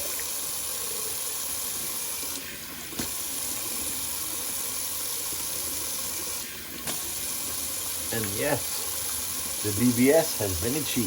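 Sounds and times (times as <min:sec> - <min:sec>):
water running into sink: 0:00.0 - 0:11.0.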